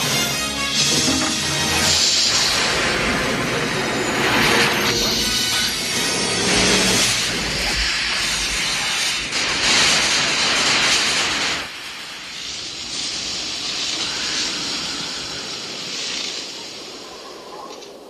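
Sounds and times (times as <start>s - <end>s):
loud steady hissing: 0.0s - 18.0s.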